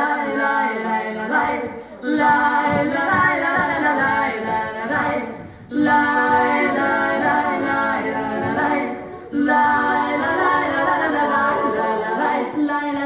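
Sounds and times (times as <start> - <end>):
song with singing voices: 0.0 - 13.0.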